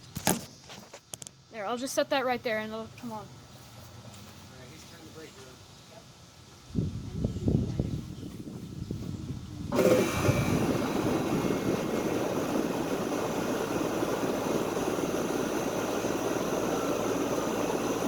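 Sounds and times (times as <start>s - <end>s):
air conditioner compressor and fan: 0.0s - 18.0s.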